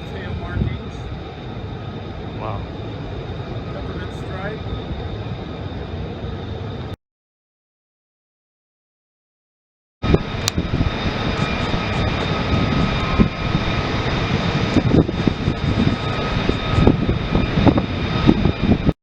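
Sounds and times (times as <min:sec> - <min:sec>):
jet engine rumble and whine: 0:00.0 - 0:07.0, 0:10.0 - 0:19.0.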